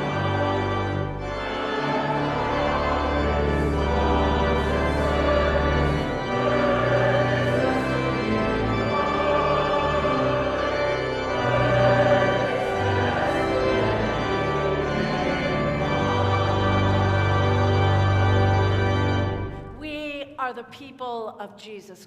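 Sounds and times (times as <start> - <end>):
church organ playing chords: 0.0 - 19.8.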